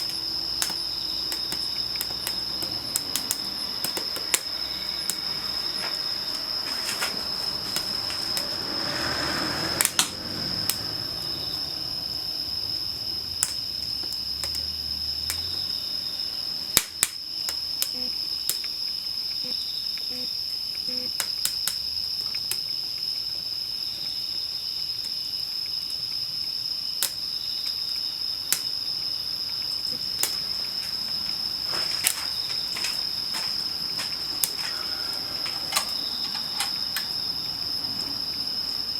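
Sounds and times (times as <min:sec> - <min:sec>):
campfire crackling and popping: 0:00.0 - 0:11.4, 0:12.8 - 0:15.8, 0:16.6 - 0:19.2, 0:20.6 - 0:23.1, 0:25.0 - 0:38.9
crickets trilling: 0:00.0 - 0:38.9.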